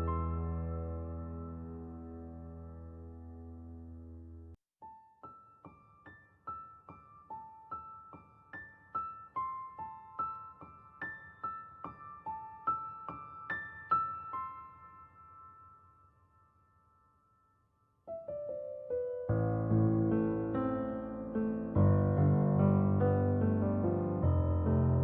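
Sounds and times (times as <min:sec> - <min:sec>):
gentle piano melody: 0:00.0 - 0:16.8, 0:18.0 - 0:25.0.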